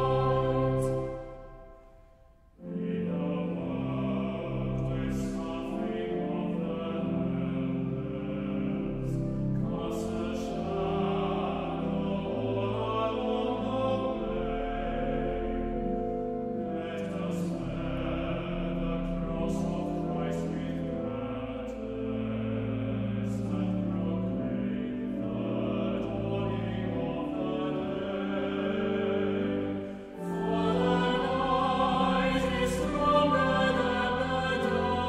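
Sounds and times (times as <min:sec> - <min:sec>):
choir singing sustained chords: 0:00.0 - 0:35.0.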